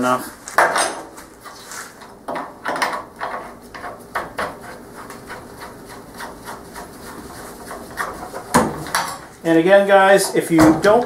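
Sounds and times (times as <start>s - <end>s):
handling and rubbing: 0.0s - 11.0s.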